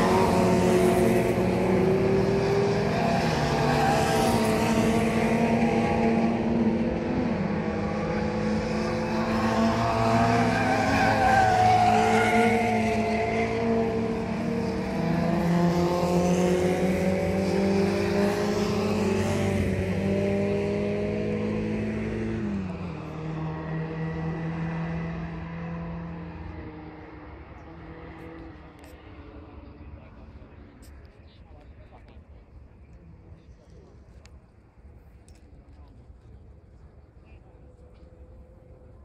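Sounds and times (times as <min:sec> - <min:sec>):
race car engines: 0:00.0 - 0:39.0.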